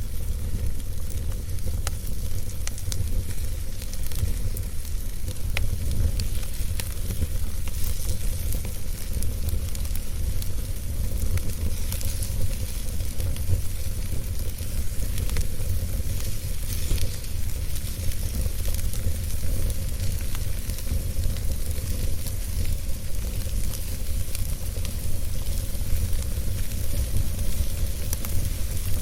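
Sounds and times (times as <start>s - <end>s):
fire hiss: 0.0s - 29.0s
wood fire crackling and popping: 0.0s - 29.0s.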